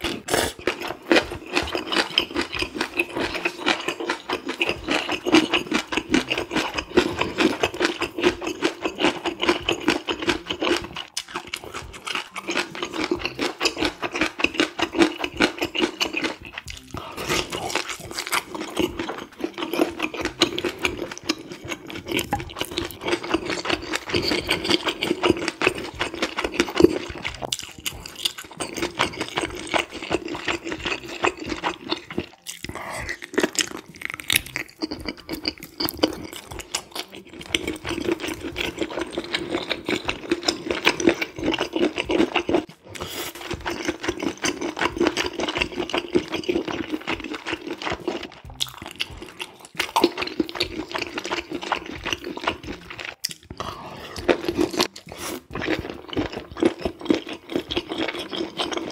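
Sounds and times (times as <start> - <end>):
wet chewing and mouth smacks: 0.0 - 58.9.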